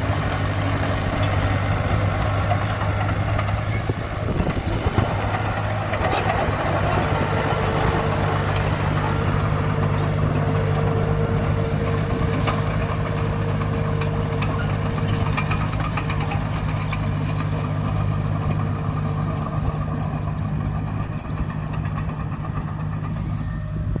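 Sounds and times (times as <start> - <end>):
heavy machine engine running: 0.0 - 24.0
clanks and rattles: 0.2 - 23.3.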